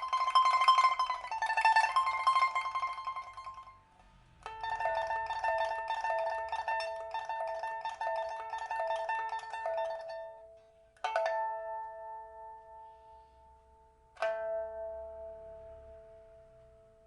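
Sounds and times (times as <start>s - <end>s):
pipa plucked notes: 0.0s - 17.0s
struck pipa chords ringing: 0.0s - 17.0s.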